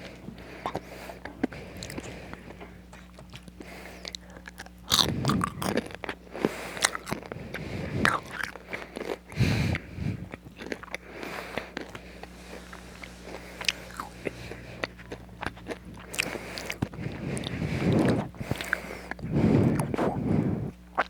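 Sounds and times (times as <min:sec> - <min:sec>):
crunchy fries being chewed: 0:00.0 - 0:21.0.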